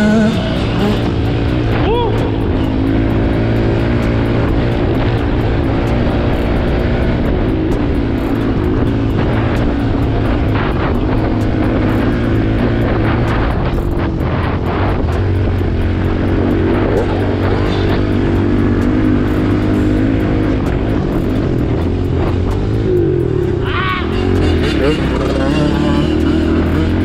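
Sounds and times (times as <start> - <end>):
dirt bike engine running: 0.0 - 27.0.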